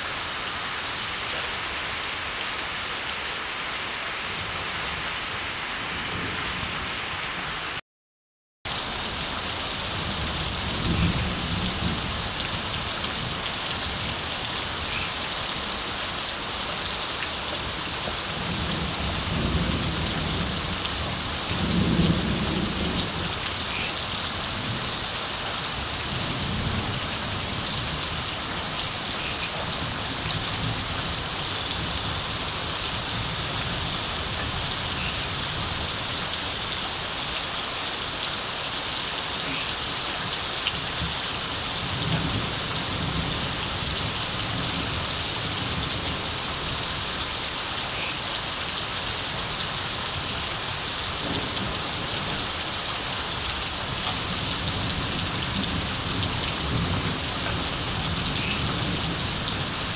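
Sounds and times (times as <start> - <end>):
steady rain falling: 0.0 - 7.8, 8.7 - 59.9.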